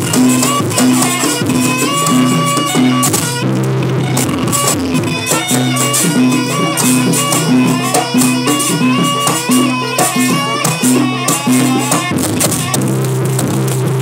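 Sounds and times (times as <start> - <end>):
repeating pitched melody: 0.0 - 12.8
drums and jingling percussion: 0.0 - 14.0.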